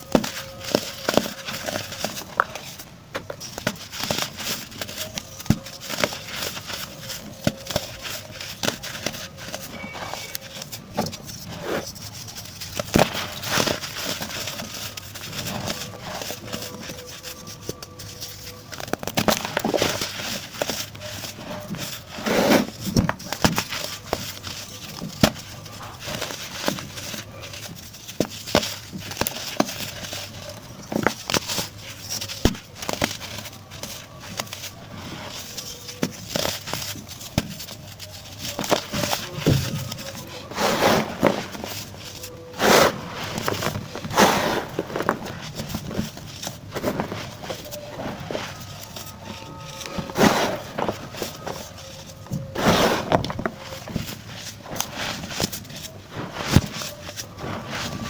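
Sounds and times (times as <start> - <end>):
baking soda chunks crunching: 0.0 - 58.0.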